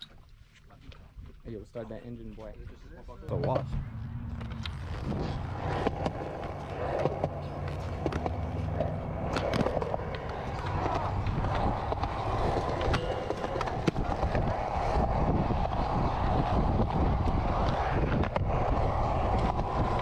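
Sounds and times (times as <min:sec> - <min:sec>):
skate wheels rolling on concrete: 0:03.4 - 0:20.0.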